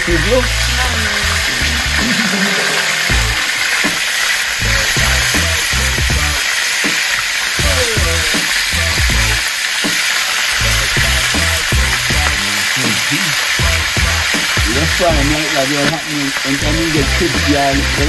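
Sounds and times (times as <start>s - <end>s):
music with bass beat: 0.0s - 4.0s, 4.6s - 7.0s, 7.6s - 15.5s, 16.6s - 18.0s
food sizzling in hot oil: 0.0s - 18.0s.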